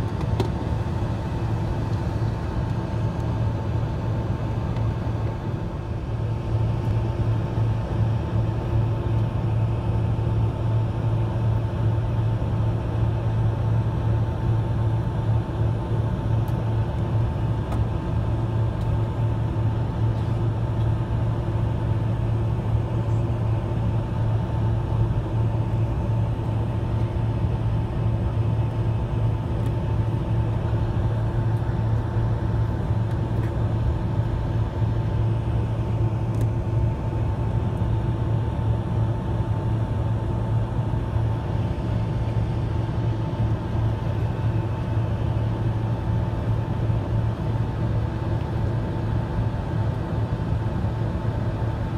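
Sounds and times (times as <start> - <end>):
low hum of aircraft engines: 0.0 - 51.9.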